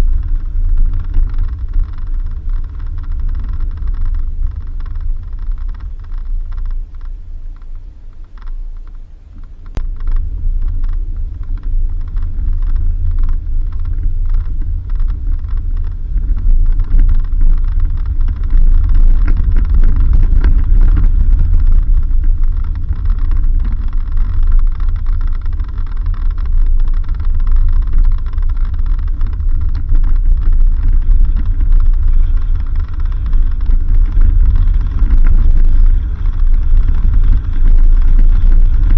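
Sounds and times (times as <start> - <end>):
vehicle driving on dirt road: 0.0 - 38.9.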